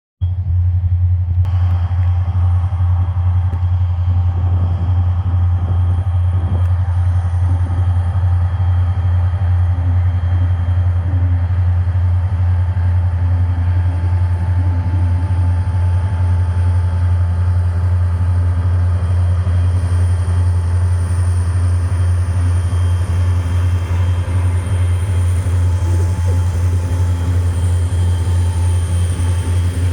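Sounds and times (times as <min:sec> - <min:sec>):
diesel locomotives rumbling: 0:00.2 - 0:29.9.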